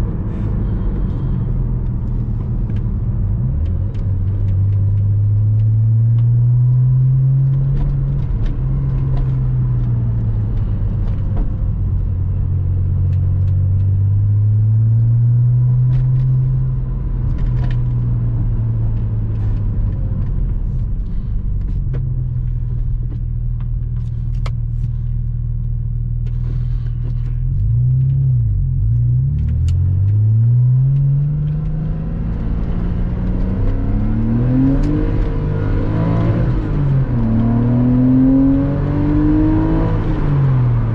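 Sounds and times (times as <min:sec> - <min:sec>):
car engine while driving: 0:00.0 - 0:40.9.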